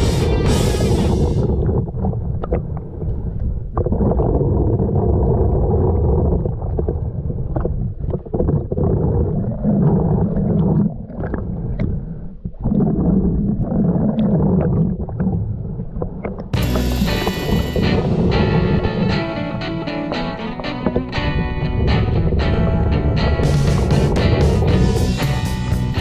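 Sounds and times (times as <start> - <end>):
muffled underwater gurgling: 0.0 - 25.1.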